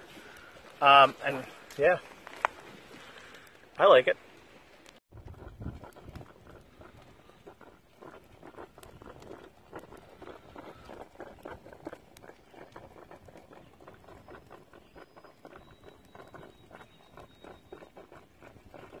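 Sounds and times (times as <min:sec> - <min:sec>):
twig fire crackling: 0:00.0 - 0:15.6
water boiling with bubbling pops: 0:00.0 - 0:19.0.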